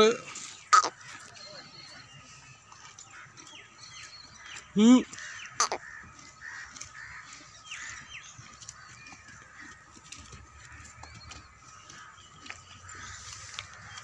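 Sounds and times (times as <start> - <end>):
birds calling short calls: 0.0 - 14.0.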